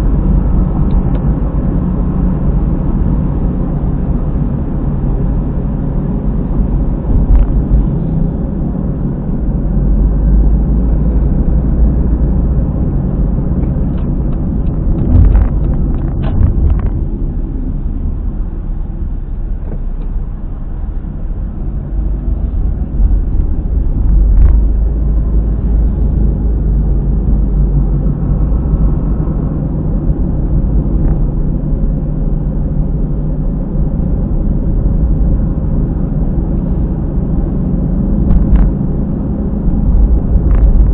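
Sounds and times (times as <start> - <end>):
road rumble: 0.0 - 40.9.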